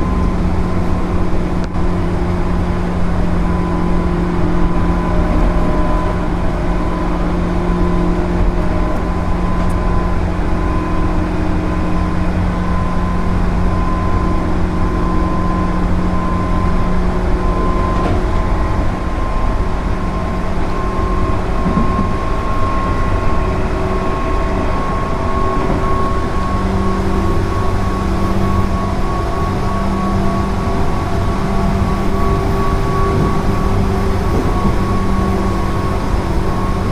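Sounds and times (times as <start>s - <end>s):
steady hum: 0.0s - 36.9s
train wheels rumbling on track: 0.0s - 36.9s.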